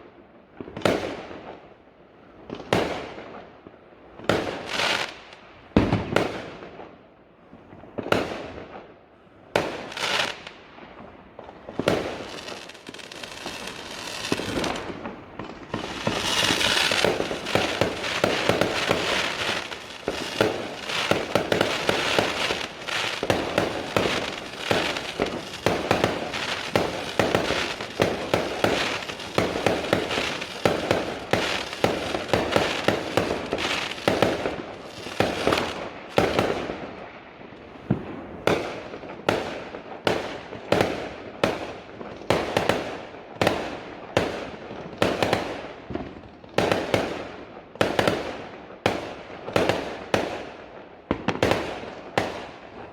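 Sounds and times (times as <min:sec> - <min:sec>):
fireworks bangs and crackling: 0:00.0 - 0:01.8, 0:02.4 - 0:52.9.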